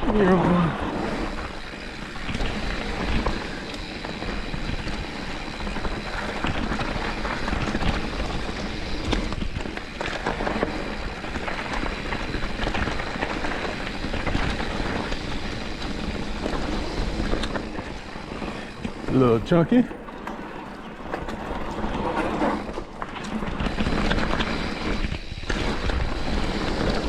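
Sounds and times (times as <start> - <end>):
bike clattering and rattling: 0.0 - 27.0
bike tyres rumbling over rock: 0.0 - 27.0.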